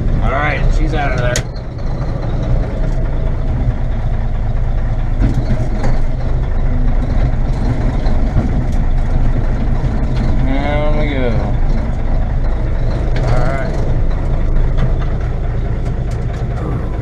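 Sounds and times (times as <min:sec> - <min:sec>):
dump truck diesel engine: 0:00.0 - 0:17.0.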